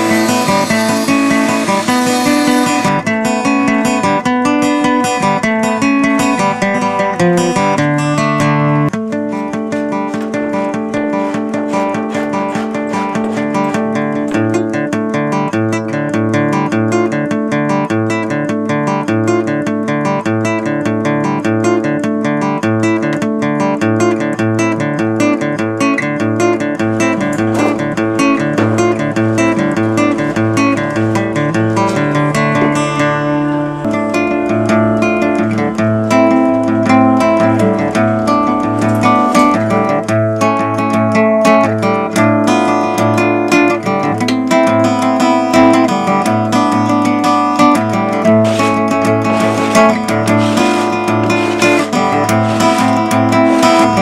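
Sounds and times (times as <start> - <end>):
acoustic guitar picking: 0.0 - 54.0.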